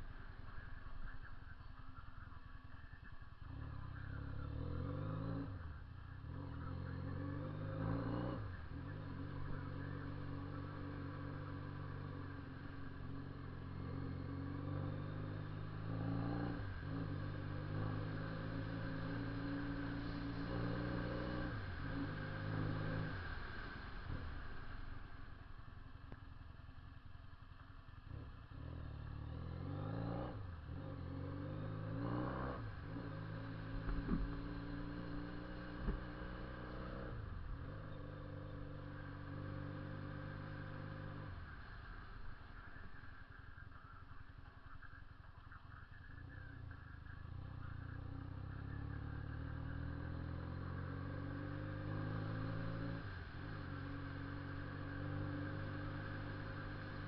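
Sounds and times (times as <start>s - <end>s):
motorcycle engine and loud exhaust: 0.0s - 57.0s.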